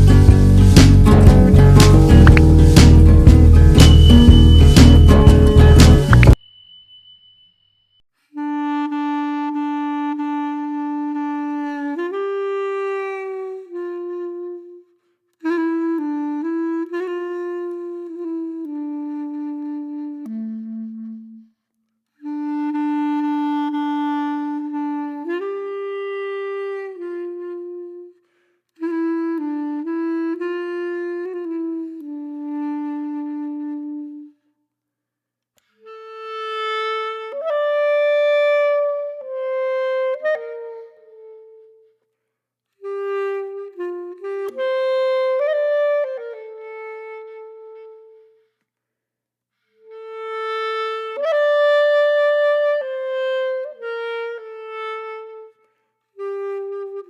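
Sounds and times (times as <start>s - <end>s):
solo clarinet-like melody: 0.0s - 6.4s, 8.2s - 34.6s, 35.6s - 42.1s, 42.7s - 48.6s, 49.6s - 57.0s.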